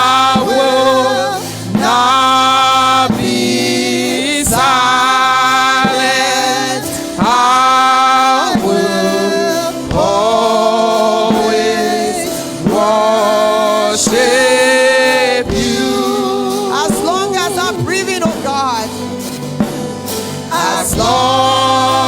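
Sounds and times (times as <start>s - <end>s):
voices singing worship song: 0.0s - 22.0s.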